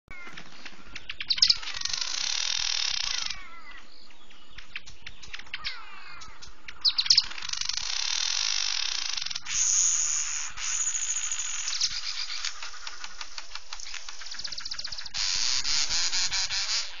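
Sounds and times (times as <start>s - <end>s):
dense rapid bird trilling: 0.1s - 17.0s
loud sharp bird calls: 0.1s - 17.0s
wild birds calling and chirping: 0.1s - 17.0s.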